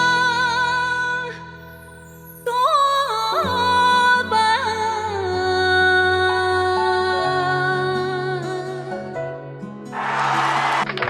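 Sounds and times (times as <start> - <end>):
woman singing: 0.0 - 9.2.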